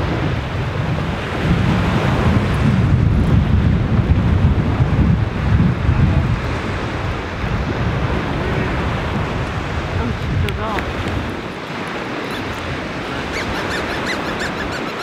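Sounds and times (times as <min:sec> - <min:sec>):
surf on the beach: 0:00.0 - 0:15.0
wind buffeting microphone: 0:00.0 - 0:15.0.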